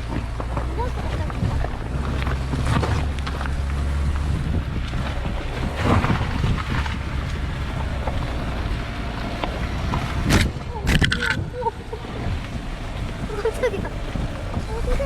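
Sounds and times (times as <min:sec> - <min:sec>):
bumps and rattles: 0:00.0 - 0:15.0
car engine and road rumble: 0:00.0 - 0:15.0.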